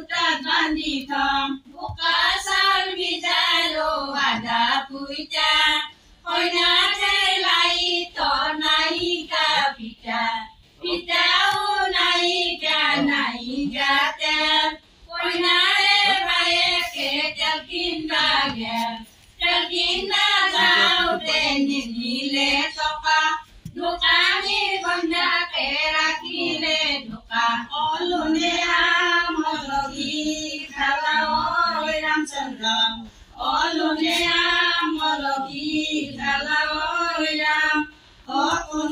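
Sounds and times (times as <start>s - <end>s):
women singing: 0.0s - 38.9s.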